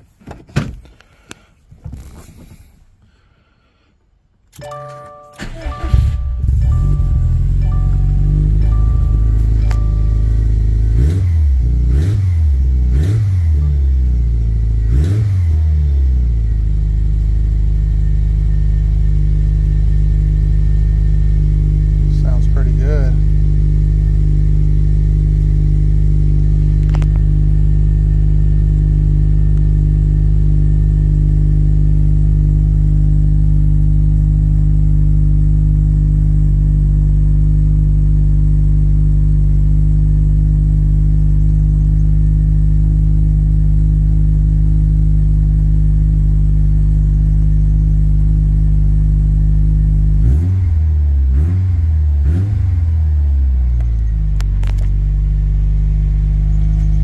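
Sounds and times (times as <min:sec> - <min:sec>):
car engine idling and revving: 0:05.4 - 0:57.0.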